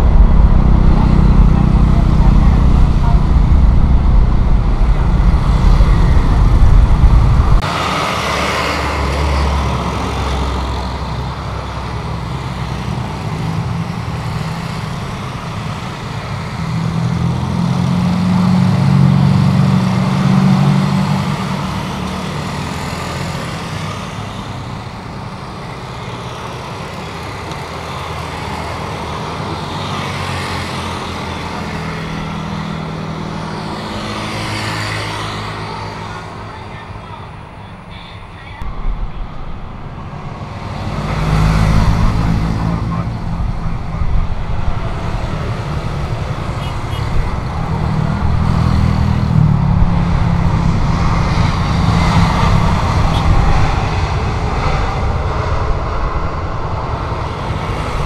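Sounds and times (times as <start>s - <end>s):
jet engine rumble: 0.0s - 17.5s, 22.9s - 58.0s
jet engine hum: 0.0s - 17.7s, 20.1s - 58.0s.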